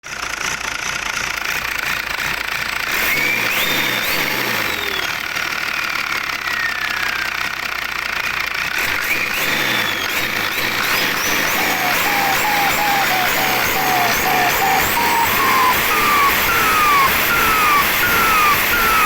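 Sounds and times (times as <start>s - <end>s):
engine running: 0.1s - 19.0s
turbocharger whistling: 1.4s - 19.0s.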